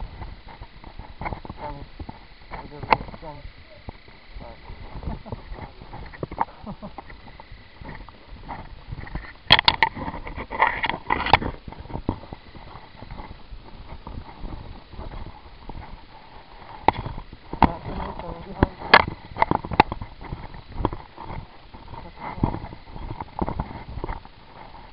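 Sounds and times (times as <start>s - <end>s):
footsteps crunching on gravel: 0.0s - 24.9s.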